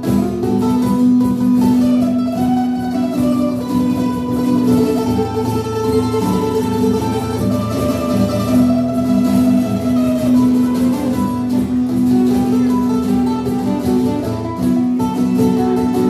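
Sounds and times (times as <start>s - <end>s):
acoustic guitar strumming: 0.0s - 16.0s
mandolin picking melody: 0.0s - 16.0s.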